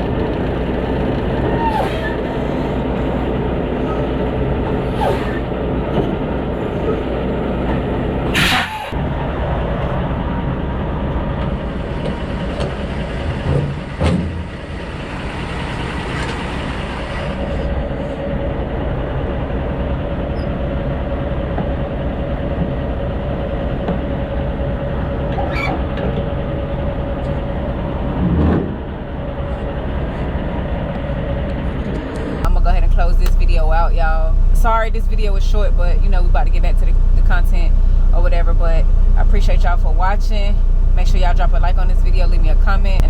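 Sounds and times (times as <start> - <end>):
truck engine low rumble: 0.0 - 43.0.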